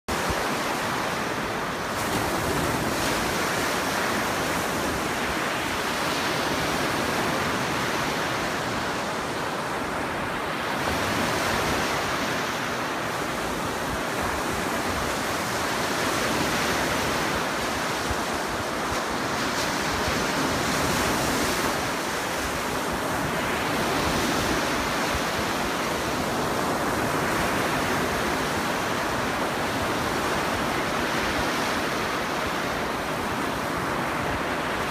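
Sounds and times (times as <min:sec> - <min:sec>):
waves breaking on a pebble beach: 0:00.1 - 0:34.9.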